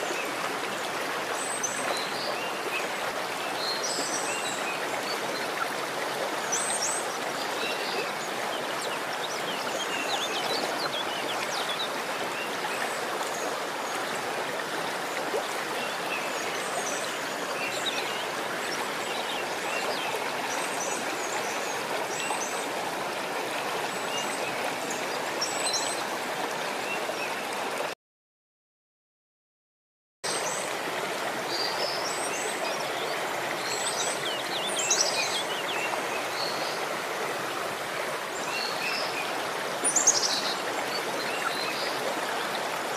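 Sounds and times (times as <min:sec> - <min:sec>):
running water rushing: 0:00.0 - 0:27.9, 0:30.3 - 0:42.9.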